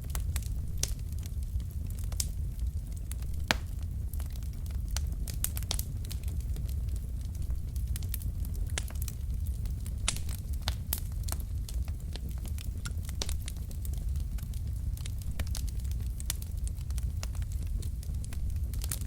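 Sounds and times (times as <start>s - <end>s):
burning logs popping and snapping: 0.0s - 19.0s
low rumble of flames: 0.0s - 19.0s.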